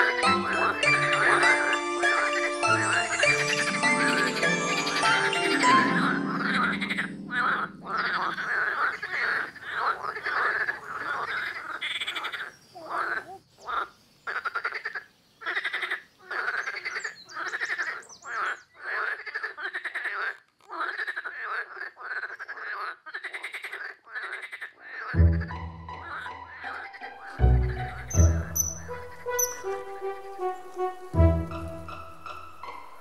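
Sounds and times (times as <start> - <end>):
frogs croaking in chorus: 0.0 - 28.0.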